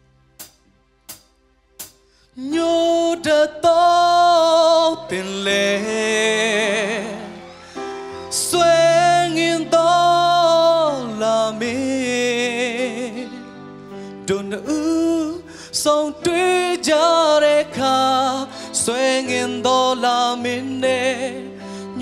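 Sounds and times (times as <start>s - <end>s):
man singing: 2.4s - 13.6s, 14.2s - 22.0s.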